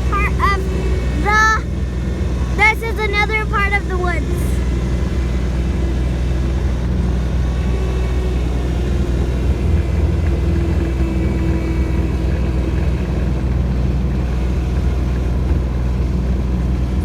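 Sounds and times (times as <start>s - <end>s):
tractor engine rumbling: 0.0s - 17.0s.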